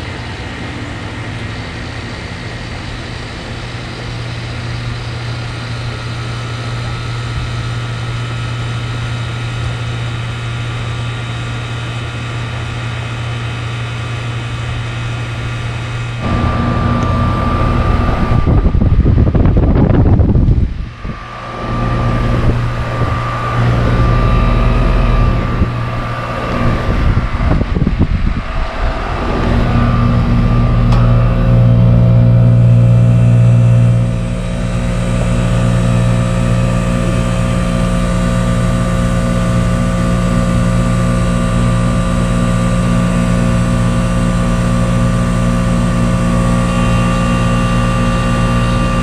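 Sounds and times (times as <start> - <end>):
compressor electrical hum: 0.0 - 49.0
condenser fan whirring: 0.0 - 49.0.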